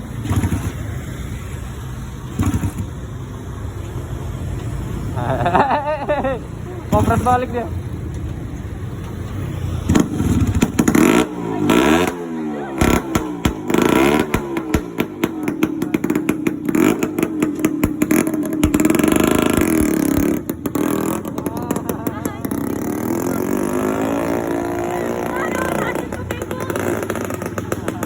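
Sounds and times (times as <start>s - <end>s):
sharp exhaust cracks: 0.0s - 5.0s, 5.6s - 28.0s
scooter engine revving: 0.0s - 28.0s.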